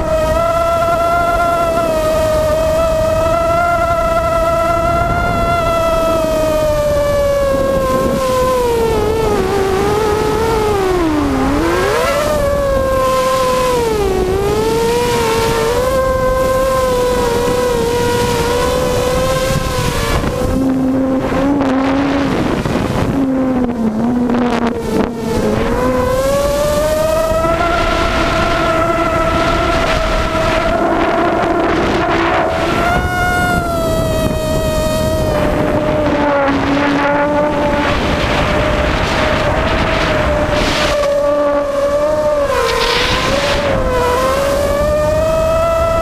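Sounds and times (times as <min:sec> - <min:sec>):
drone motors whining: 0:00.0 - 0:46.0
lower motor tone: 0:00.0 - 0:46.0
wind noise on microphone: 0:00.0 - 0:46.0.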